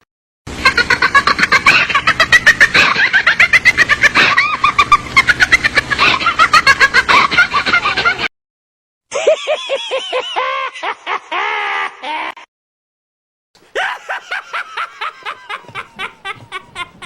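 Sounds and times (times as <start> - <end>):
high-pitched cackling laughter: 0.6 - 8.3, 9.1 - 12.5, 13.7 - 17.0.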